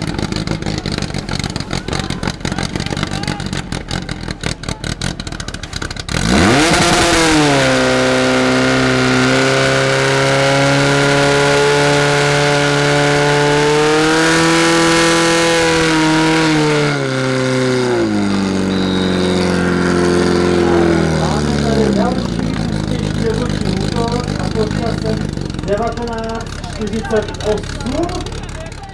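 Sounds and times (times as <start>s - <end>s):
pump engine revving: 0.0s - 28.9s.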